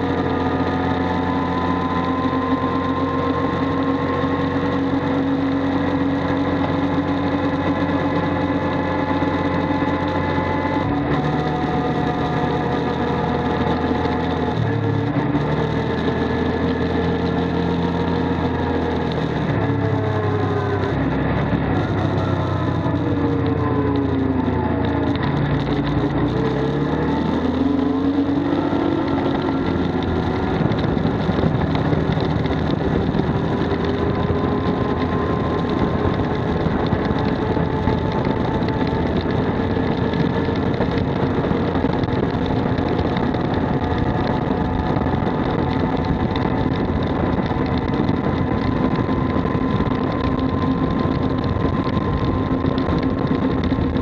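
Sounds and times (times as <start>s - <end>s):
side-by-side engine running: 0.0s - 54.0s.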